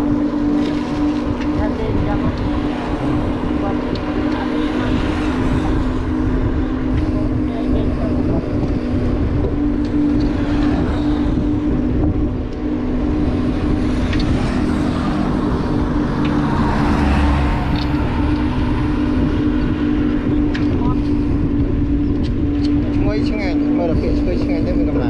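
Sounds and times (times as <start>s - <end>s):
motorbike engine cruising: 0.0s - 25.0s
road rumble: 0.0s - 25.0s
wind on microphone: 0.0s - 25.0s.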